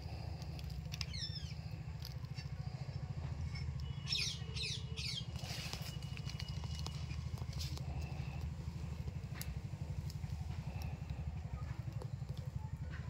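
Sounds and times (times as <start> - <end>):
small birds chirping: 0.0 - 12.9
pulsing engine-like drone: 0.0 - 13.0.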